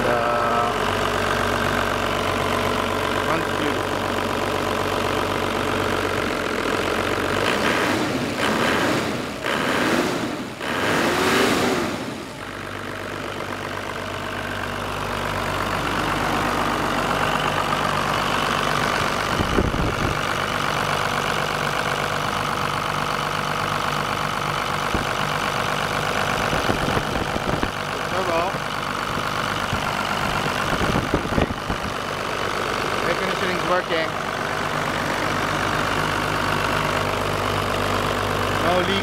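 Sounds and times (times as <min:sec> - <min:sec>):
diesel engine idling: 0:00.0 - 0:11.0, 0:11.7 - 0:39.0.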